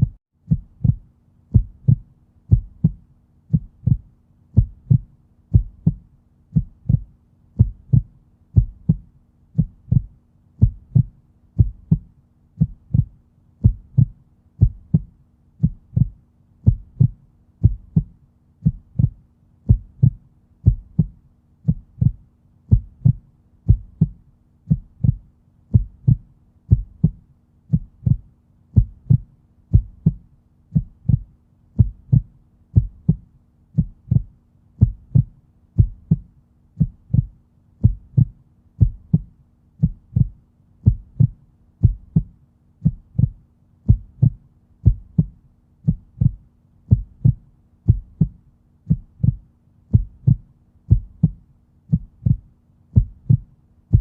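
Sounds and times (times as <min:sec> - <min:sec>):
heartbeat: 0:00.0 - 0:54.0.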